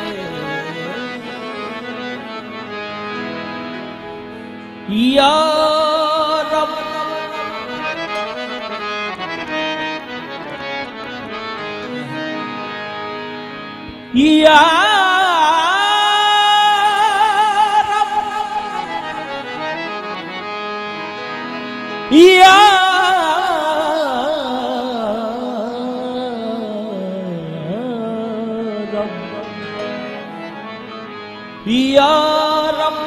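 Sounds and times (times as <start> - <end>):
man singing with vibrato: 0.0 - 3.3, 4.8 - 12.8, 14.1 - 20.5, 21.8 - 31.0, 31.6 - 33.0
harmonium chords: 0.0 - 33.0.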